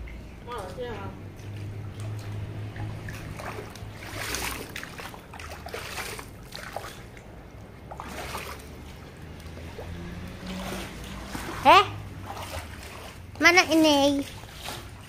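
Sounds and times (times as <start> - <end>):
water splashing on wet paving: 0.0 - 15.0.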